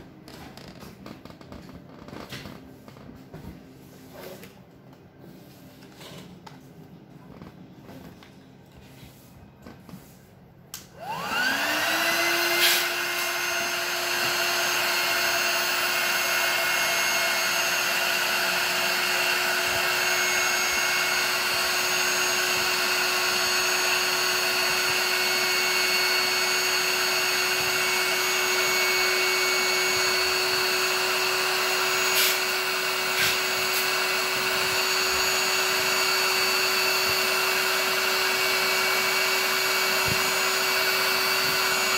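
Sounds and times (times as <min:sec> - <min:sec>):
electric air pump whining: 0:00.0 - 0:41.9.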